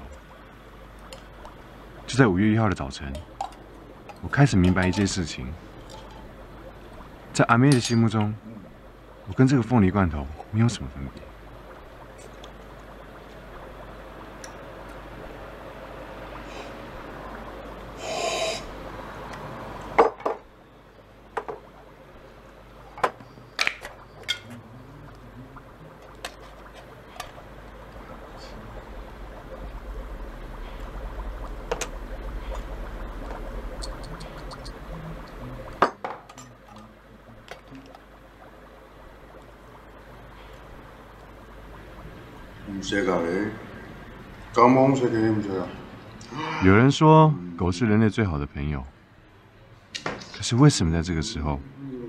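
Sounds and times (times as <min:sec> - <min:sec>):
background hiss: 0:00.0 - 0:52.0.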